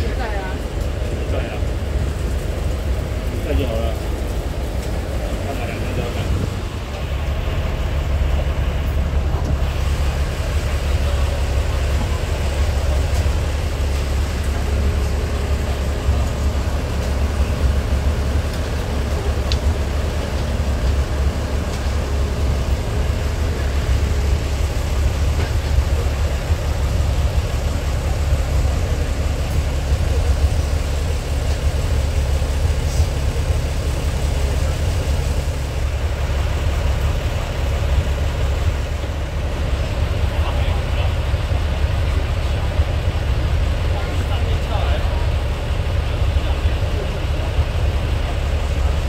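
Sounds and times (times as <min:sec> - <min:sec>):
diesel railcar engine rumbling: 0:00.0 - 0:49.0.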